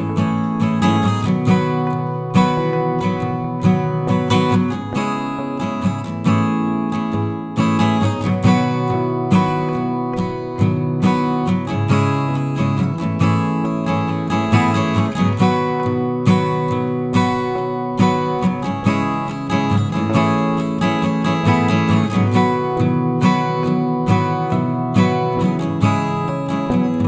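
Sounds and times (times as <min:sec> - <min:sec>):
strummed acoustic guitar music: 0:00.0 - 0:27.0.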